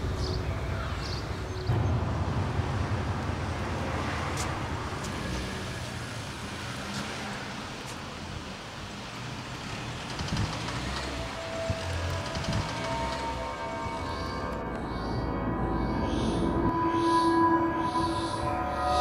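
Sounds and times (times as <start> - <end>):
cars passing on a street: 0.0 - 19.0.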